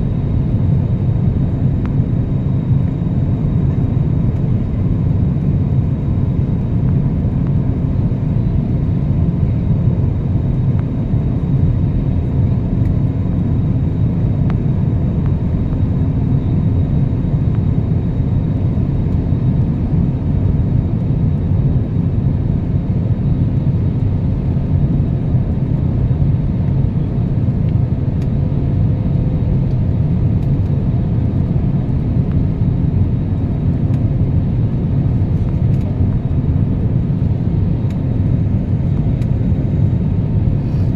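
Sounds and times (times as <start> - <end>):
airliner engines and airflow rumble: 0.0 - 40.9.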